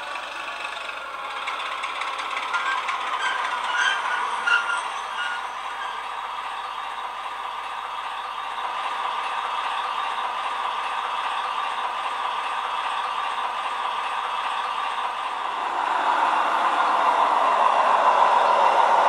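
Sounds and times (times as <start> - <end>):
model diesel engine sound: 0.0 - 19.0
wheels rattling on track: 0.0 - 19.0.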